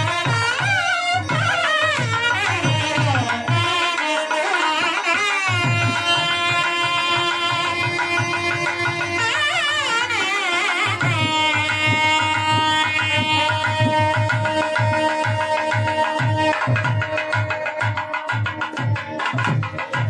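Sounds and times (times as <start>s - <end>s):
hand drum beat: 0.0s - 20.0s.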